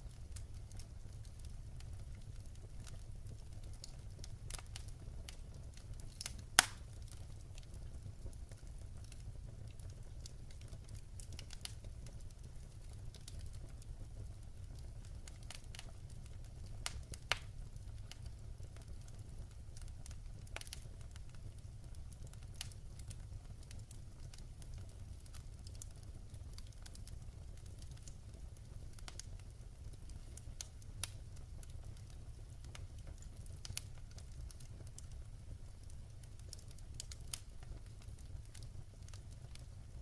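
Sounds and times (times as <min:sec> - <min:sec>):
fire low rumble: 0:00.0 - 0:40.0
wood fire crackling and popping: 0:00.0 - 0:40.0.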